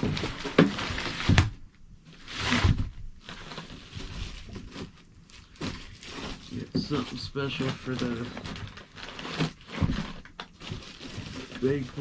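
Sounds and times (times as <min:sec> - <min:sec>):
rustling and handling of gear: 0:00.0 - 0:12.0.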